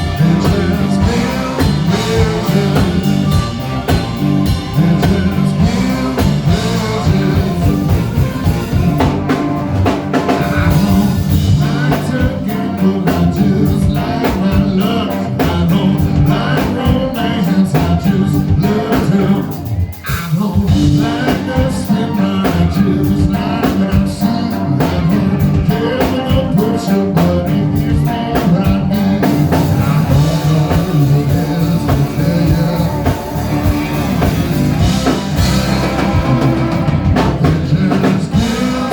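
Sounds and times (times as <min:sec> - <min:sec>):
rock band playing blues-rock: 0:00.0 - 0:38.9.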